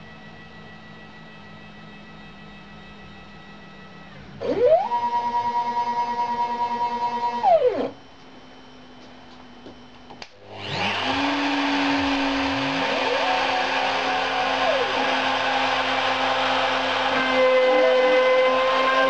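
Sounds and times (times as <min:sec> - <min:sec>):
stepper motors whining: 0:00.3 - 0:08.1, 0:10.5 - 0:19.0
spindle motor whirring: 0:01.1 - 0:08.1, 0:10.4 - 0:19.0.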